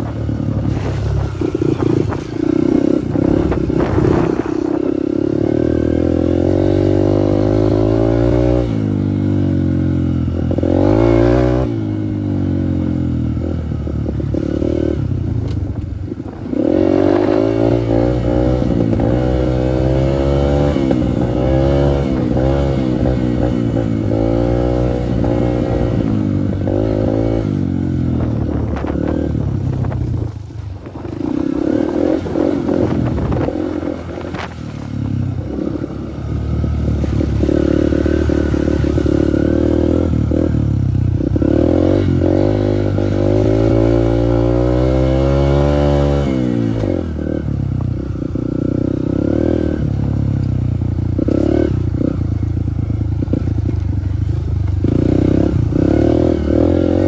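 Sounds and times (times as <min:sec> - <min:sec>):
dirt bike engine revving: 0:00.0 - 0:15.3, 0:16.2 - 0:53.7, 0:54.8 - 0:57.0.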